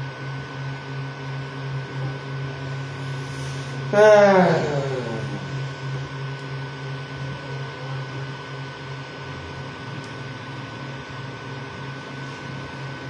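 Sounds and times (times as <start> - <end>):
printer fans and motors humming: 0.0 - 13.0.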